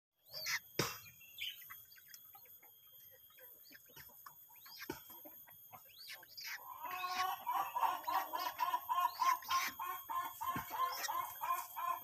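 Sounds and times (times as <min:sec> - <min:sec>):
high chirping bird calls: 0:00.2 - 0:12.0.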